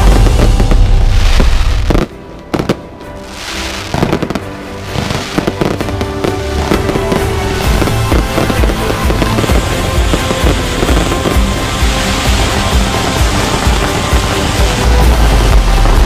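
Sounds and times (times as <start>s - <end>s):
fireworks and firecrackers banging: 0.0s - 16.0s
music playing: 0.0s - 16.0s.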